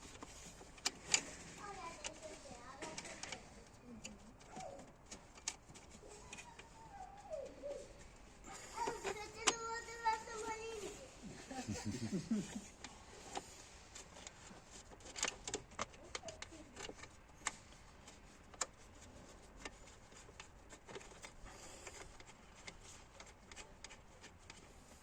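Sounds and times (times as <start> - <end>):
faint clicks and light taps: 0.0 - 11.0, 12.5 - 25.0.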